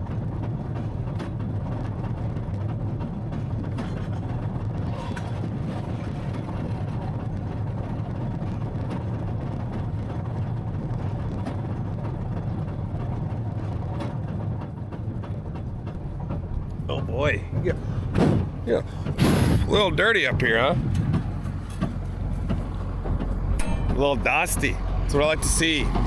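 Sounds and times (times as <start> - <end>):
machinery clicks and rattles: 0.0 - 26.0
tractor engine running: 0.0 - 26.0.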